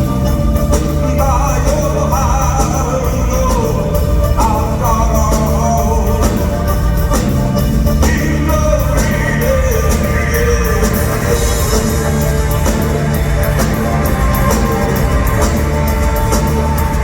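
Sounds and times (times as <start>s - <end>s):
live rock band playing: 0.0s - 17.0s
person singing: 0.1s - 7.2s, 7.8s - 17.0s.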